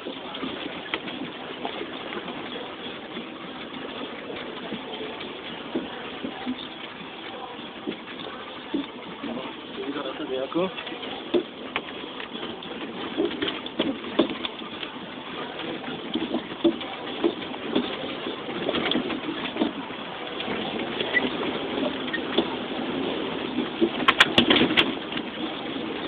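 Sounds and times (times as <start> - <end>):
knocks and rattles: 0.0 - 26.0
vehicle rumbling on rough track: 0.0 - 26.0.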